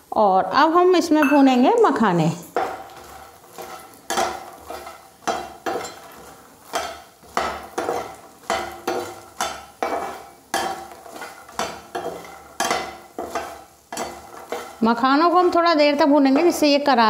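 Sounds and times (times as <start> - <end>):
metal skimmer scraping a pan: 2.5 - 16.7.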